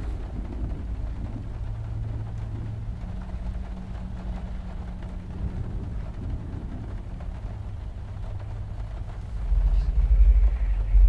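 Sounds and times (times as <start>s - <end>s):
low rumbling drone: 0.0s - 11.0s.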